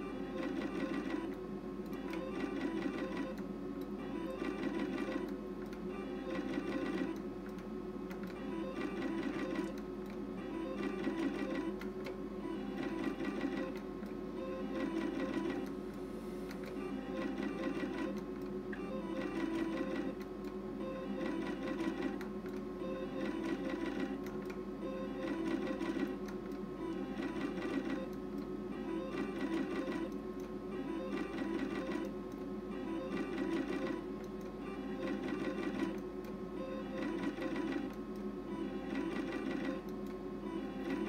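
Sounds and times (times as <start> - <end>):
slot machine reels spinning: 0.0 - 3.4, 4.0 - 9.8, 10.4 - 13.8, 14.4 - 15.7, 16.7 - 20.3, 20.9 - 28.2, 28.8 - 38.0, 38.6 - 41.0.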